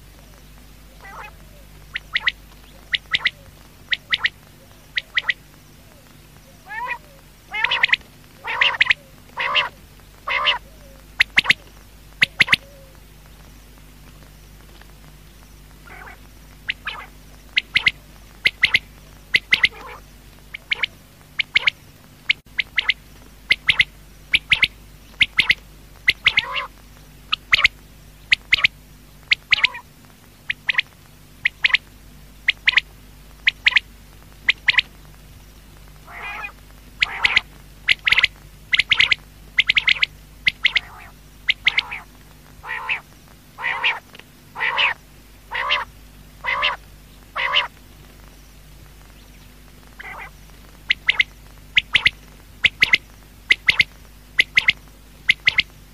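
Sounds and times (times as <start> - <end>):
faint steady hum: 0.0 - 55.9
quail calling: 0.9 - 13.0, 15.8 - 29.9, 30.5 - 34.9, 36.0 - 47.8, 49.9 - 55.8.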